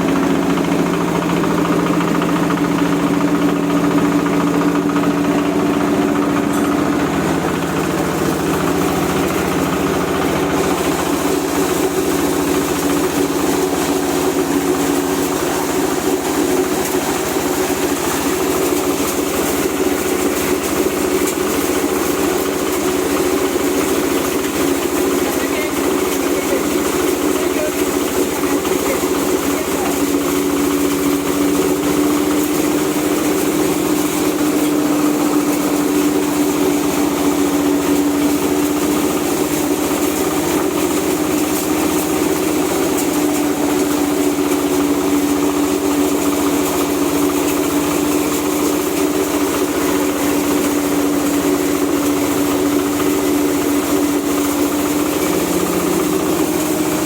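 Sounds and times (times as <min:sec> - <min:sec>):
huller machine humming: 0:00.0 - 0:57.0.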